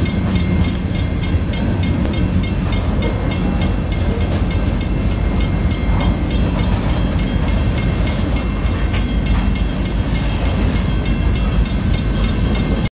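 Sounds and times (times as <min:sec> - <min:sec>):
crossing bells ringing: 0:00.0 - 0:12.9
train wheels rumbling on rails: 0:00.0 - 0:12.9.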